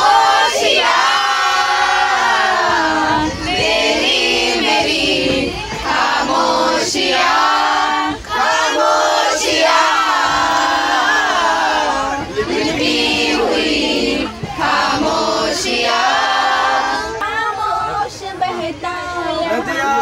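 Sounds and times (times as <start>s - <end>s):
group singing together: 0.0s - 20.0s.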